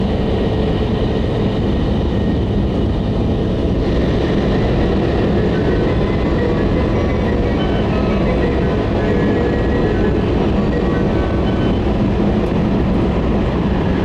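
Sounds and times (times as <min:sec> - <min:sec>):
train rumbling into station: 0:00.0 - 0:14.0.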